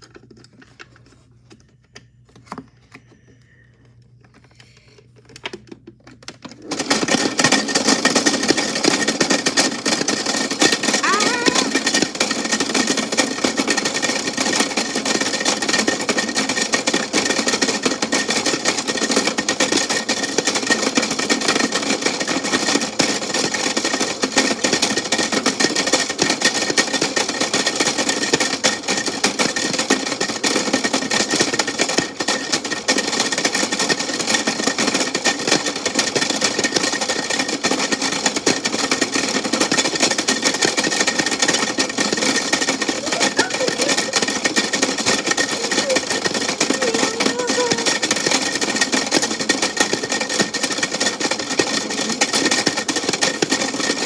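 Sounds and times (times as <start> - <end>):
toy washing machine buzzing rattle: 0.0 - 54.0.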